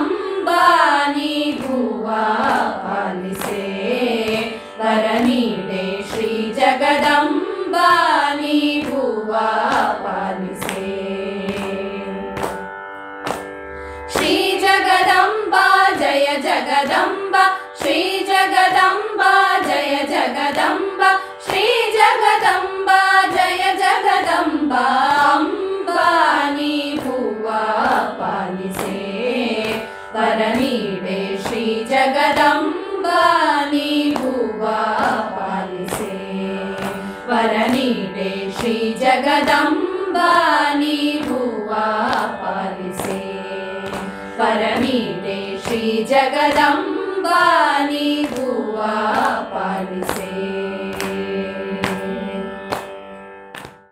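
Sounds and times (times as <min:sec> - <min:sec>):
women singing devotional song: 0:00.0 - 0:13.4, 0:14.1 - 0:53.8
hand claps: 0:00.0 - 0:29.9, 0:30.5 - 0:53.9
steady drone: 0:00.0 - 0:53.0.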